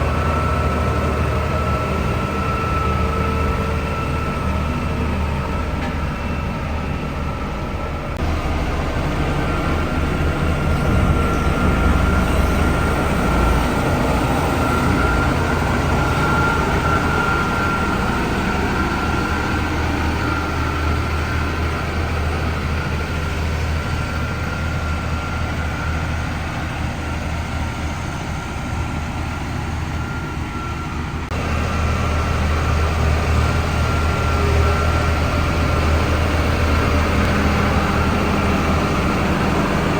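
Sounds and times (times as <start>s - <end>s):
diesel machinery engine drone: 0.0s - 39.9s
thin steady whine: 0.0s - 39.9s.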